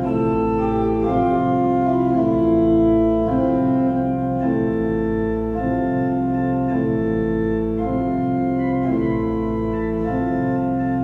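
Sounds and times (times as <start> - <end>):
organ playing chords: 0.0 - 11.0.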